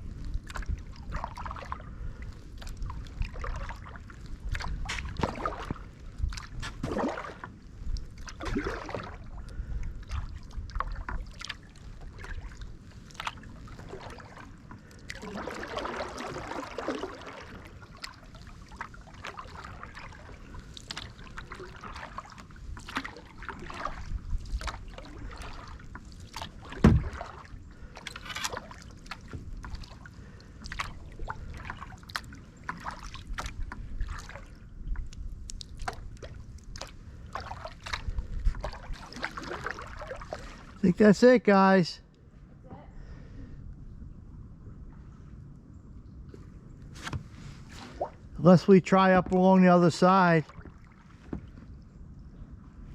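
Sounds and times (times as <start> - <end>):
paddle splashing water: 0.0 - 41.3, 46.3 - 52.0.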